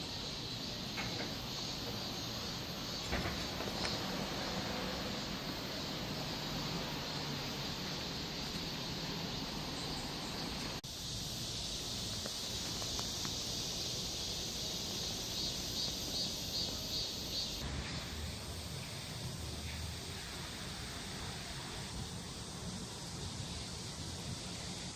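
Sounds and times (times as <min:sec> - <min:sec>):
cicadas buzzing: 0:00.0 - 0:24.9
pulsing insect call: 0:00.0 - 0:24.9.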